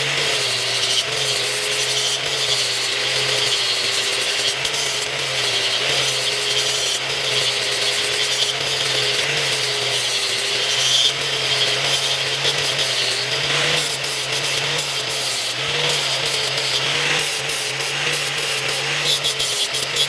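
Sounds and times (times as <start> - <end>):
grinder against metal: 0.0 - 20.0.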